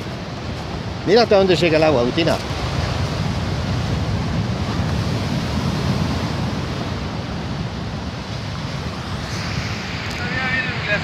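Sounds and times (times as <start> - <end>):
surf breaking over rocks: 0.0 - 11.0.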